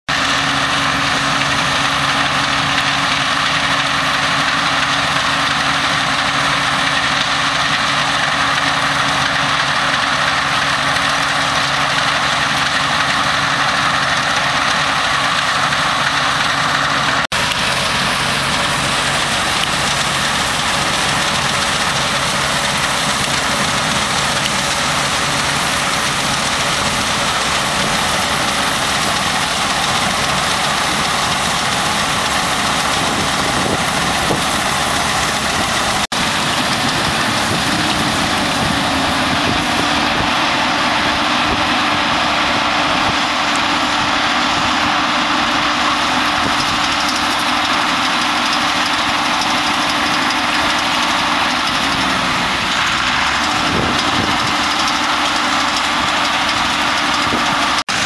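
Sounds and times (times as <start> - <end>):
combine harvester engine hum: 0.1 - 58.0
whir of threshing machinery: 0.1 - 58.0.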